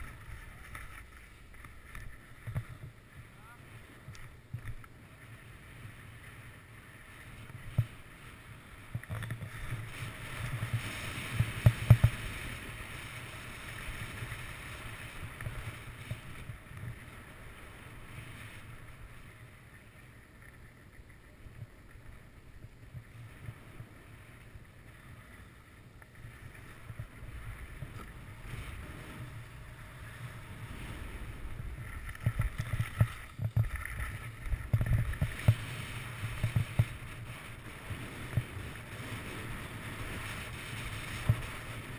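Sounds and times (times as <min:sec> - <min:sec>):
skis scraping over snow: 0:00.0 - 0:41.9.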